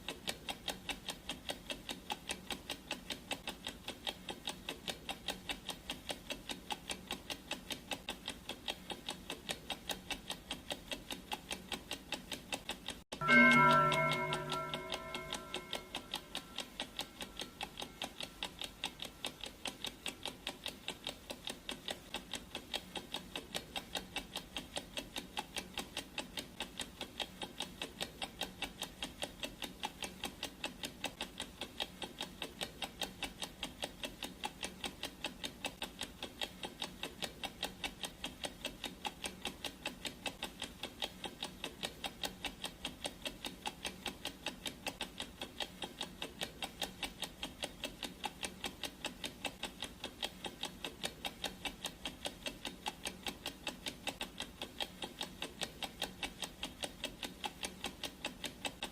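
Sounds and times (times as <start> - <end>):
clock ticking: 0.0 - 58.9.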